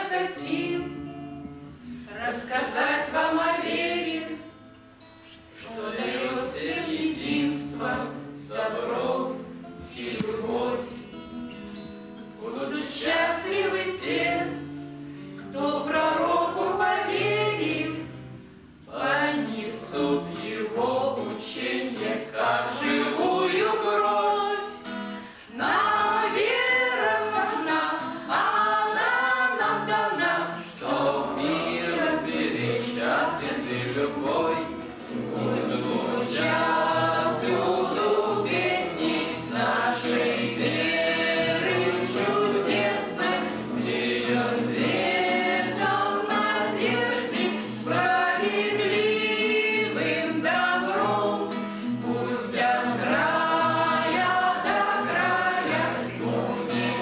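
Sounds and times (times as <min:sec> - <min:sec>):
women singing in harmony: 0:00.0 - 0:01.1, 0:02.1 - 0:04.6, 0:05.4 - 0:11.1, 0:12.4 - 0:14.8, 0:15.4 - 0:57.0
strummed acoustic guitar: 0:00.0 - 0:57.0.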